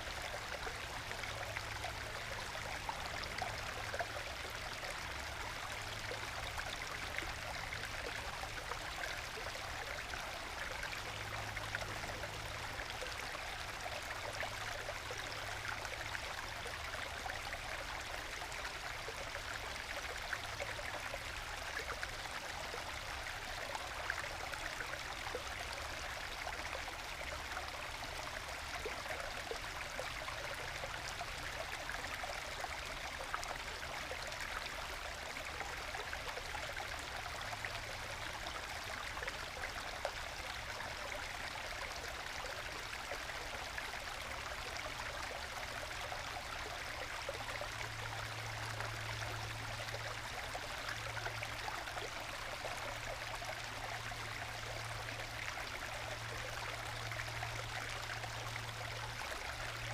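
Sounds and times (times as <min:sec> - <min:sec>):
forest stream trickling and gurgling: 0:00.0 - 0:59.9.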